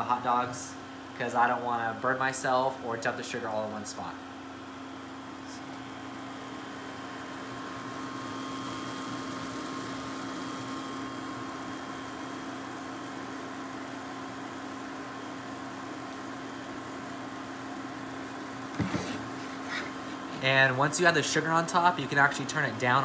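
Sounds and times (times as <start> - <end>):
cooling fan hum: 0.0 - 23.0.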